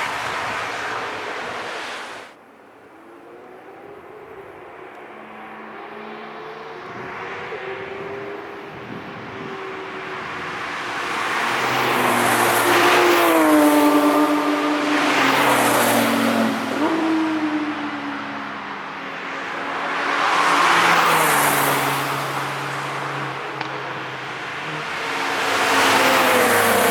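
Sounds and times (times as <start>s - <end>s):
cars driving past at speed: 0.0s - 26.9s.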